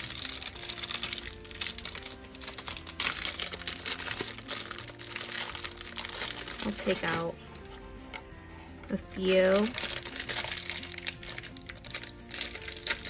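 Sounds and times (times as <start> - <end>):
background music: 0.0 - 13.0
plastic sleeve crinkling: 0.0 - 13.0.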